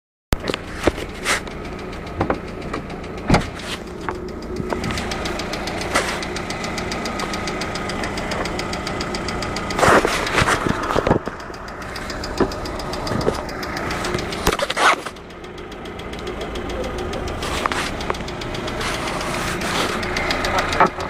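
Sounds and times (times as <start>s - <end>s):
car engine idling with ticking: 0.4s - 21.0s
loud irregular engine knocks: 1.6s - 21.0s.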